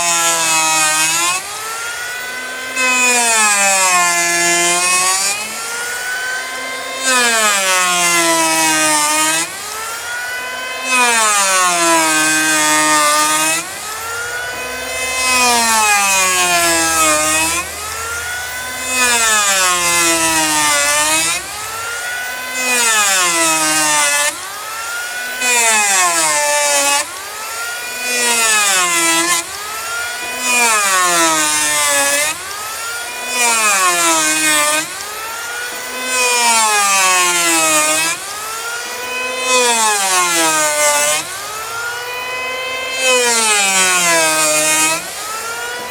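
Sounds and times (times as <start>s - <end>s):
planer cutter hissing: 0.0s - 45.9s
power planer motor whine: 0.0s - 45.9s.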